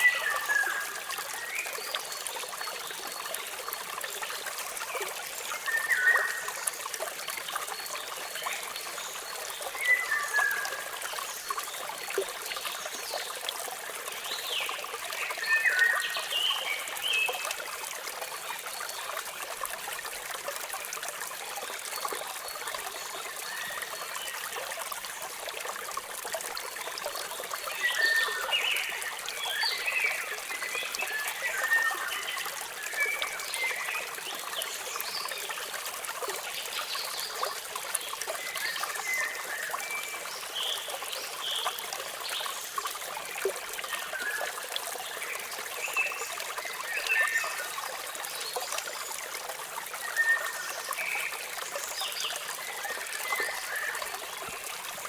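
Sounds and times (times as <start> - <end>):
waterfall rushing trickle: 0.0 - 55.0.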